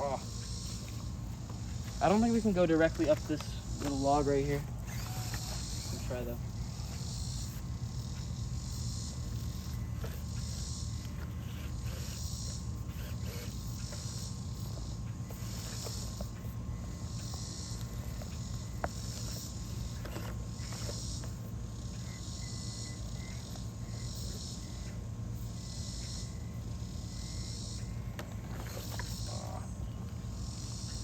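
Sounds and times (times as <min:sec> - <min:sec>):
insects buzzing chorus: 0:00.0 - 0:31.0.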